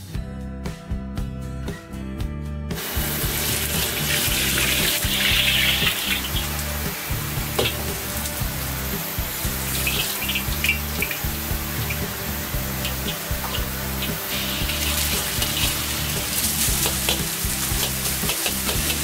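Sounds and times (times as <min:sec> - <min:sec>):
gas burner roaring: 0:02.8 - 0:19.0
running tap water: 0:02.8 - 0:19.0.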